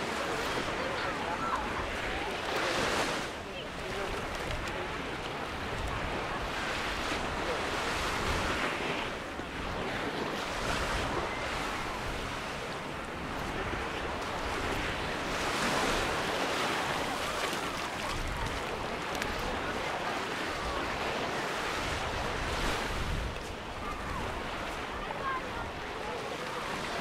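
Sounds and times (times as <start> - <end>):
small waves washing on sand: 0.0 - 27.0
wind on microphone: 0.0 - 27.0.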